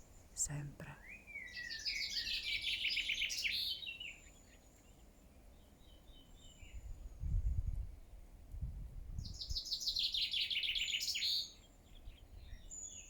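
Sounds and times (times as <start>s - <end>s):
songbird chirping: 0.0s - 8.2s, 9.2s - 13.0s.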